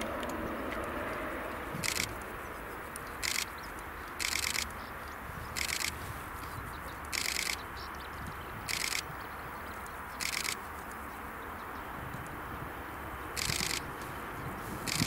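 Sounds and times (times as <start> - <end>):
insect chirping: 0.0 - 11.8, 13.3 - 13.9
distant turboprop engines rumbling: 0.0 - 15.0.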